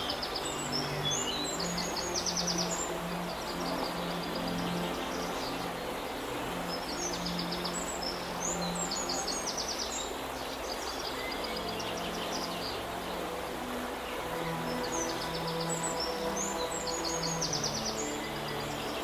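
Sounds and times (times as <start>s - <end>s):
river water rushing: 0.0s - 19.0s
songbirds trilling and chirping: 0.0s - 19.0s.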